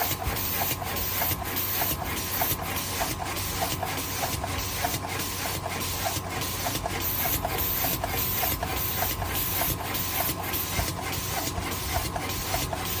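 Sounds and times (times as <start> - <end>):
machine hissing in rhythm: 0.0 - 13.0
steady machine hum: 0.0 - 13.0.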